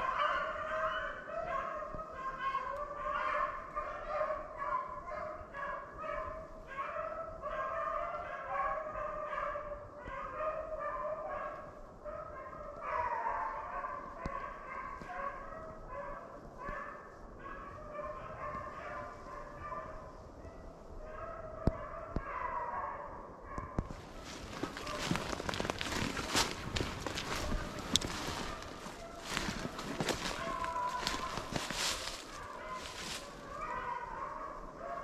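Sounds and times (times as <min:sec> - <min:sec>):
beagles baying: 0:00.0 - 0:35.0.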